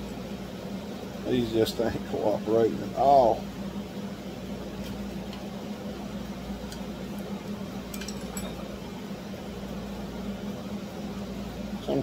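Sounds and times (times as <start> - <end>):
steady shop hum: 0.0 - 12.0.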